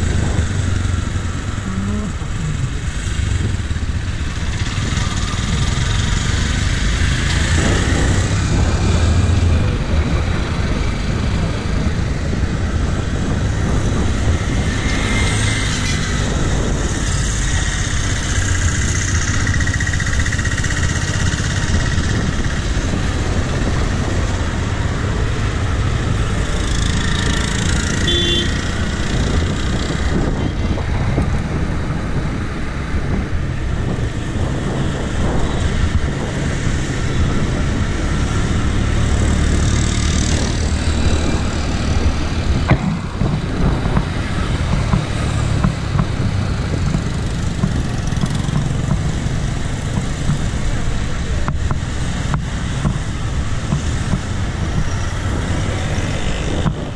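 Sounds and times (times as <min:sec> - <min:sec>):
motor vehicles passing: 0:00.0 - 0:56.9
traffic rumble: 0:00.0 - 0:56.9.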